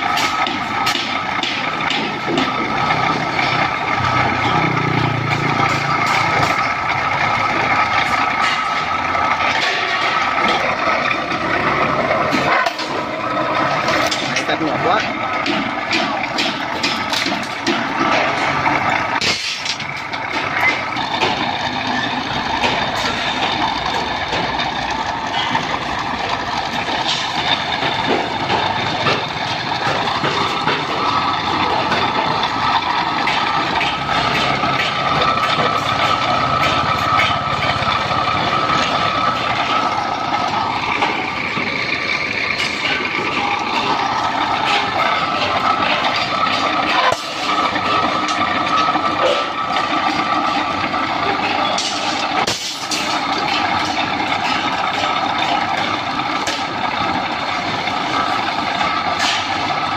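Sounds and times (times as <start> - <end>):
rebar cutting machine humming: 0.0 - 59.9.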